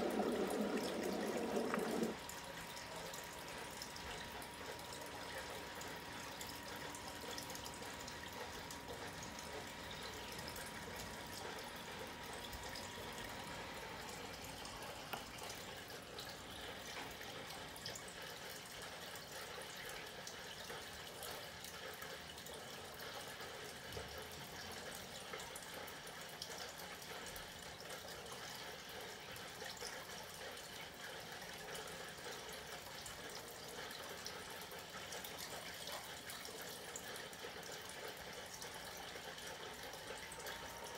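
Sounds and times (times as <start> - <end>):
running water hiss with drips: 0.0 - 40.9.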